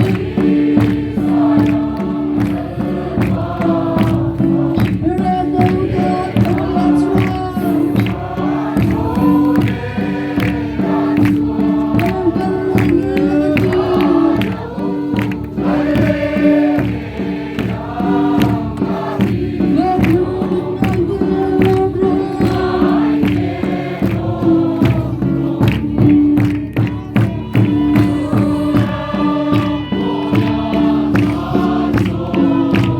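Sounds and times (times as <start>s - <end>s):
accompaniment with regular beat: 0.0s - 32.9s
choir singing a gospel hymn: 0.0s - 32.9s.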